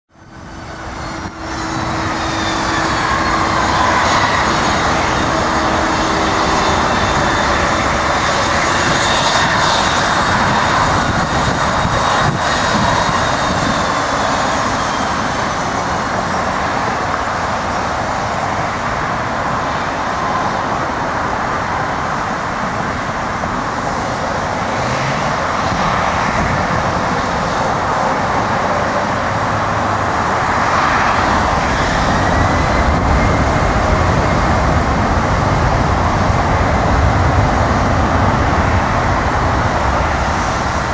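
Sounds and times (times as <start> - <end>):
jet engines whining: 0.1 - 40.9.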